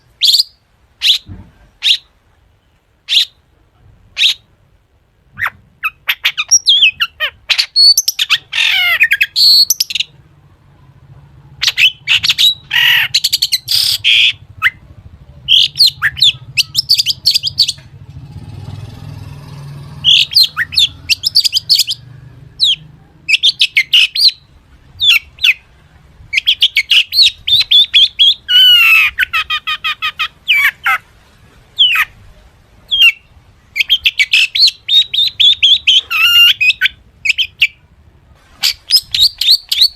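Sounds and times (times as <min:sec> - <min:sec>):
bird singing chirps and trills: 0:00.0 - 0:03.4, 0:05.4 - 0:25.7, 0:26.3 - 0:31.0, 0:32.9 - 0:37.8, 0:38.6 - 0:39.9.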